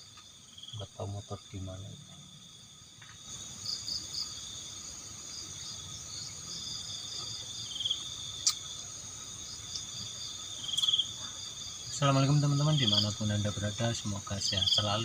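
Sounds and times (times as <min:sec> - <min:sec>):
crickets chirring: 0:00.0 - 0:15.0
insect trill: 0:00.0 - 0:15.0.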